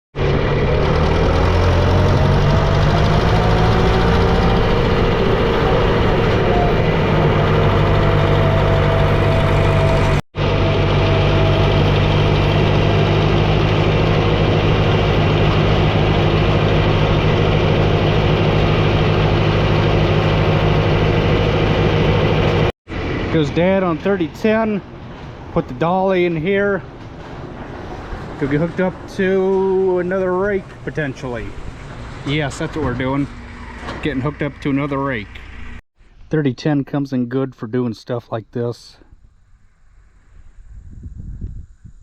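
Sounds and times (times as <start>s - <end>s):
tractor engine running: 0.2s - 35.8s.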